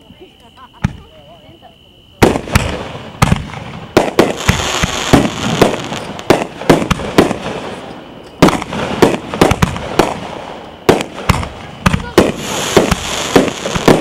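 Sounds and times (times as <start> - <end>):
fireworks crackling hiss: 0.0 - 14.0
fireworks bangs: 2.2 - 14.0.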